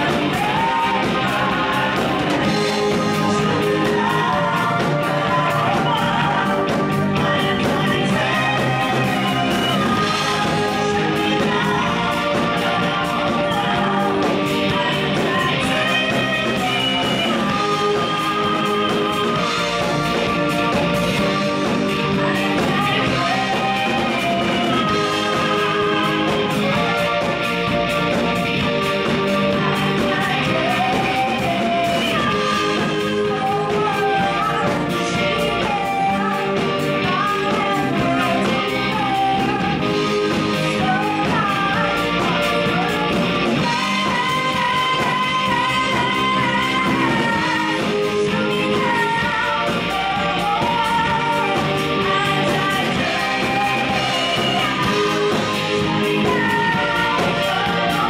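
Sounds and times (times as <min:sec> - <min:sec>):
woman singing: 0:00.0 - 0:27.4, 0:28.5 - 0:58.0
live rock band playing: 0:00.0 - 0:58.0.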